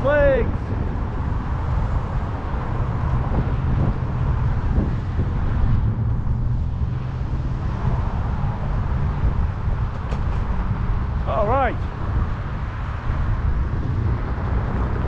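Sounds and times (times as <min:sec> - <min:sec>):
passing car traffic: 0:00.0 - 0:15.0
wind rumbling on microphone: 0:00.0 - 0:15.0.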